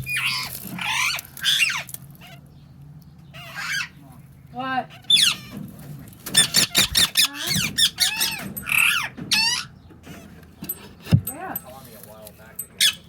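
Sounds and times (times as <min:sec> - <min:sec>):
baby birds peeping: 0:00.0 - 0:13.0.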